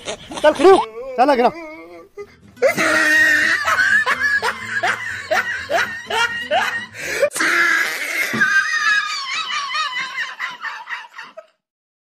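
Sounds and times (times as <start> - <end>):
person laughing: 0.0 - 11.5.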